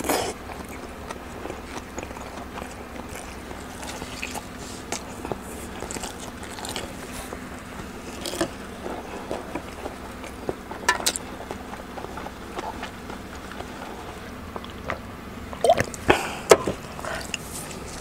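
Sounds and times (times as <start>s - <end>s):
close-miked chewing: 0.0s - 18.0s.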